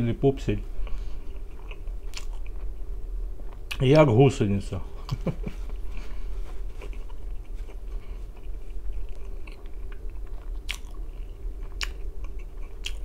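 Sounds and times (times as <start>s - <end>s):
low hum: 0.0s - 13.0s
man chewing food: 0.8s - 3.8s, 5.0s - 13.0s.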